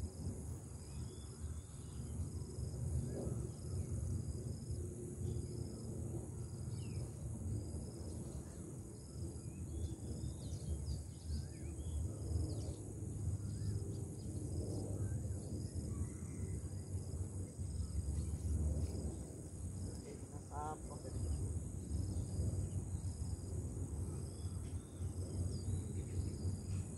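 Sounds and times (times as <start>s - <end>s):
insects trilling: 0.0s - 26.9s
repeating insect chirp: 0.0s - 26.9s.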